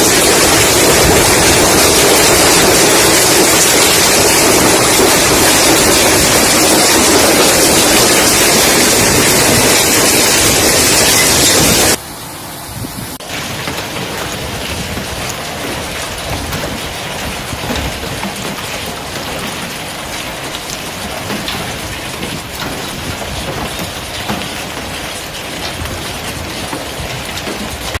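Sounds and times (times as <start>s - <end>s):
heavy rain pelting hard surfaces: 0.0s - 28.0s.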